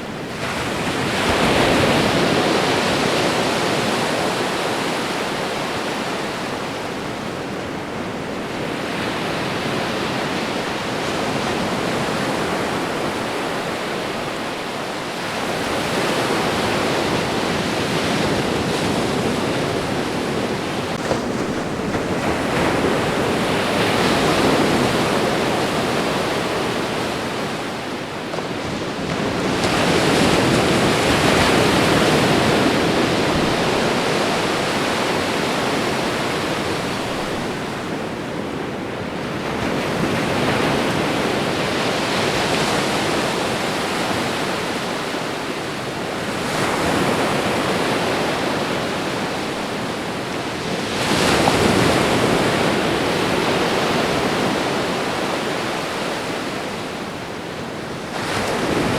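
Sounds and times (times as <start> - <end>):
ocean waves washing onto shore: 0.0 - 58.9.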